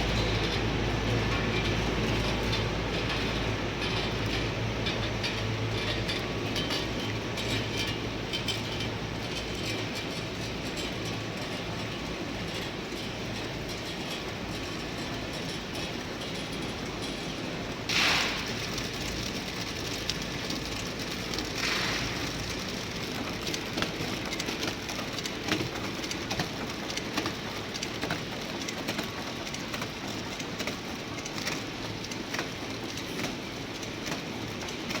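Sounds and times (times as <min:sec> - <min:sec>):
machine clicks and clatter: 0:00.0 - 0:35.0
production line machinery running: 0:00.0 - 0:35.0.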